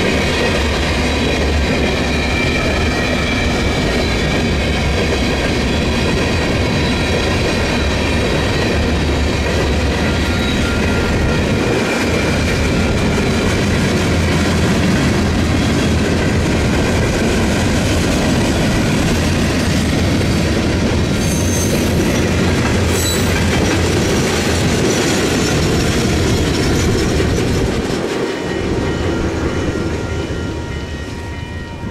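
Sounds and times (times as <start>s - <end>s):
freight train rolling past: 0.0s - 31.9s.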